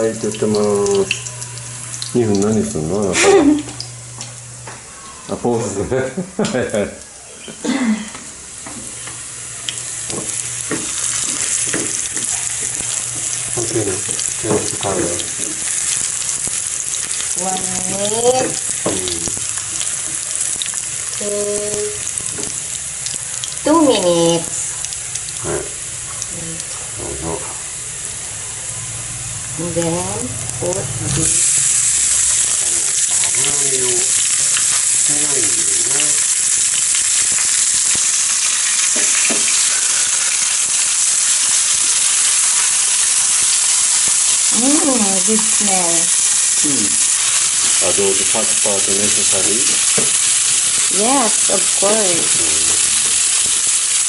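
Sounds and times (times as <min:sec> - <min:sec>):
meat sizzling in oil: 0:00.0 - 0:05.8, 0:08.2 - 0:54.0.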